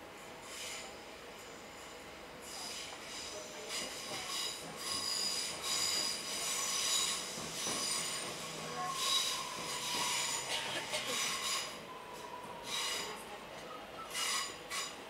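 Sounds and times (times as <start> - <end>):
train wheels squealing on rails: 0.1 - 15.0.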